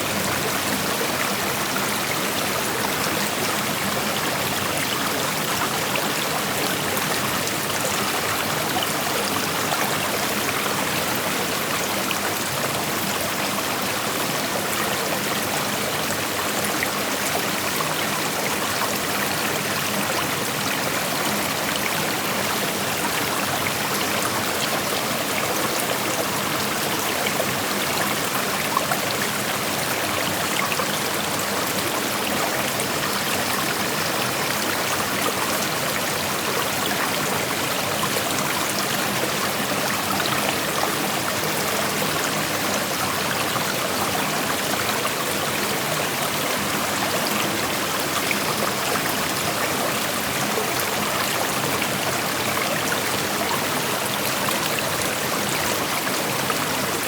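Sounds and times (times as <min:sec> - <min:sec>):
creek water babbling over rocks: 0:00.0 - 0:57.0.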